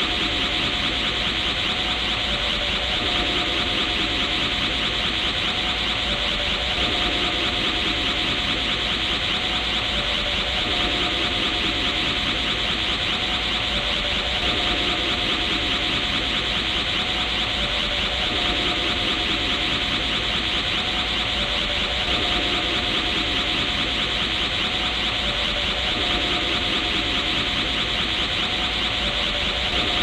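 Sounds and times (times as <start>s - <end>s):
faint steady tones: 0.0s - 30.0s.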